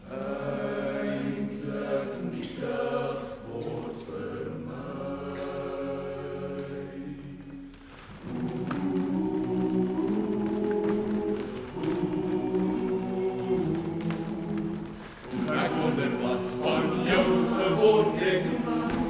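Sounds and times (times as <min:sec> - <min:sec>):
men's choir singing held chords: 0:00.0 - 0:19.0.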